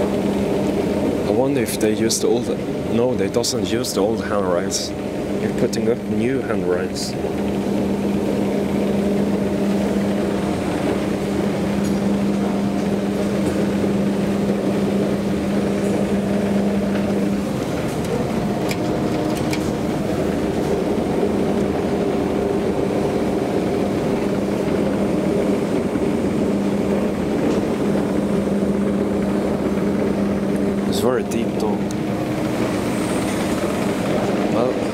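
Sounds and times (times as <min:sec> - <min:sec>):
elevator mechanical hum: 0:00.0 - 0:34.9.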